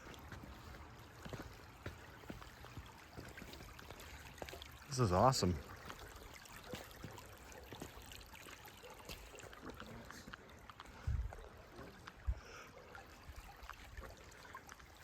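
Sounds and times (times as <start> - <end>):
small stream trickling: 0.0 - 15.0.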